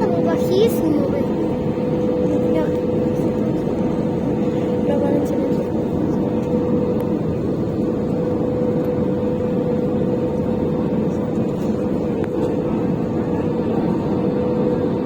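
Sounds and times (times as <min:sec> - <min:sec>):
constant cabin hum: 0:00.0 - 0:15.0
engine and airflow rush: 0:00.0 - 0:15.0.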